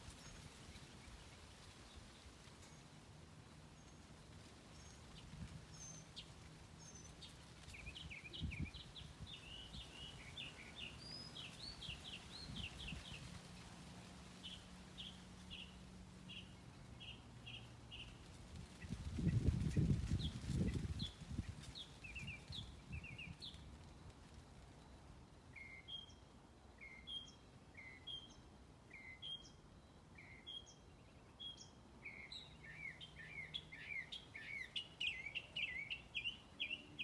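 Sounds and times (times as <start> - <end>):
songbirds chirping: 0.0 - 37.0.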